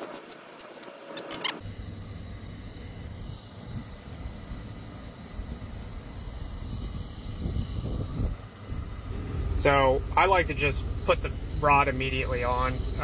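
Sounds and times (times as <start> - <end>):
torch flame hissing: 1.6 - 13.0.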